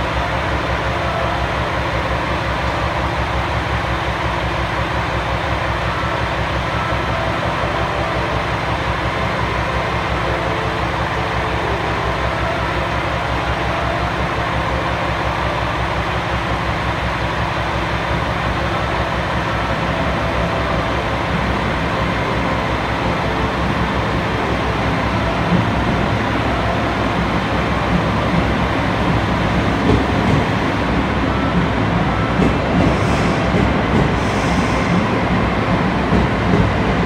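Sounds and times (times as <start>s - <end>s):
electric train rumbling: 0.0s - 37.0s
train cars knocking: 0.0s - 37.0s.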